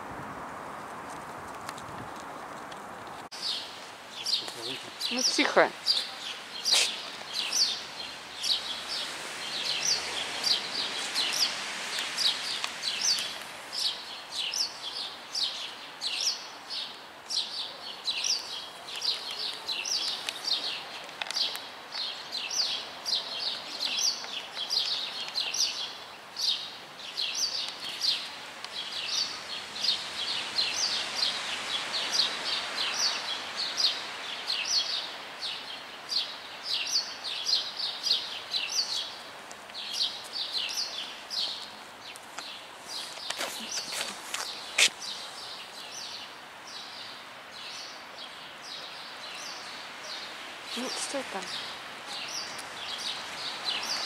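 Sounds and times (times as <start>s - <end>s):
small birds chirping: 2.1s - 54.0s.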